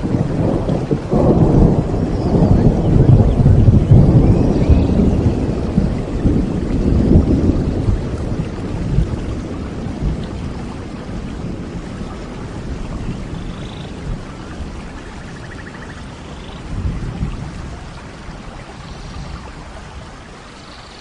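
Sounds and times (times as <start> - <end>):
thunder rumbling: 0.0 - 20.5
steady rain: 0.0 - 21.0.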